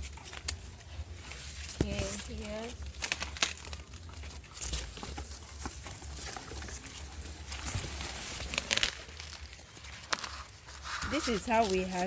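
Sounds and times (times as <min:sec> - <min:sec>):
dry maize leaves rustling: 0:00.0 - 0:12.0.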